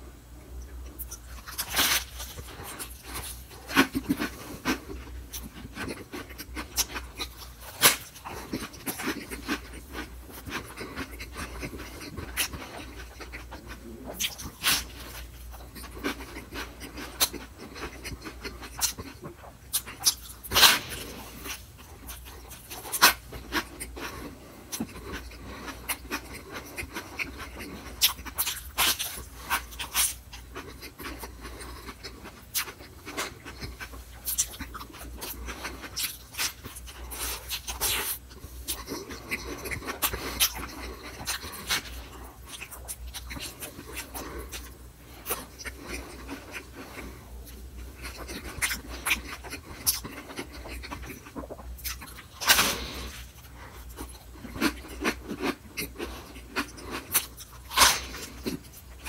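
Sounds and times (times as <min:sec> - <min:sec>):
lettuce crunching: 0:00.9 - 0:59.0.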